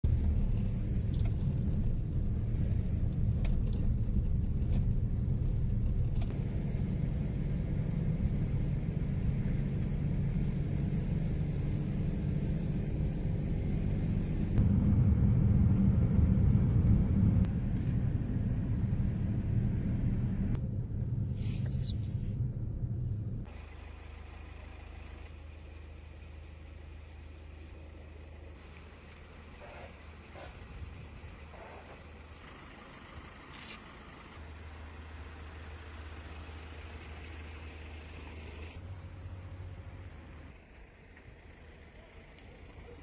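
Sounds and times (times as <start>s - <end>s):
motor vehicle rumble: 0.0s - 43.0s.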